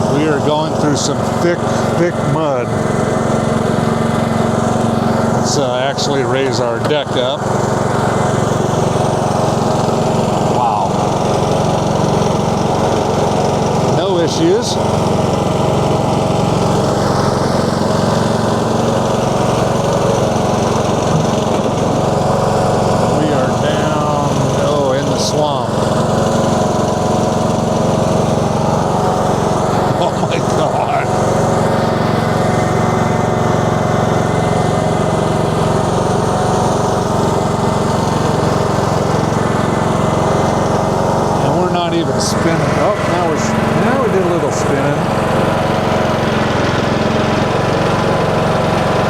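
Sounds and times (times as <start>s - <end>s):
riding mower engine under load: 0.0s - 49.0s.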